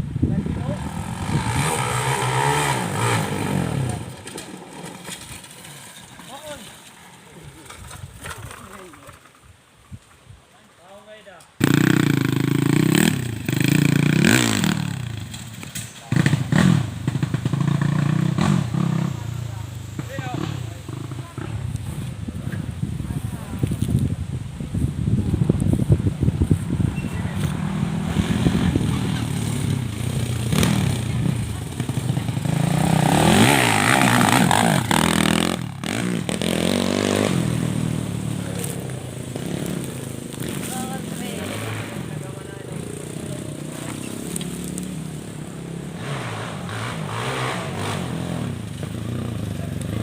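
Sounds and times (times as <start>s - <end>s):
motorcycle engine revving: 0.2s - 6.6s, 11.6s - 24.1s, 24.7s - 50.0s.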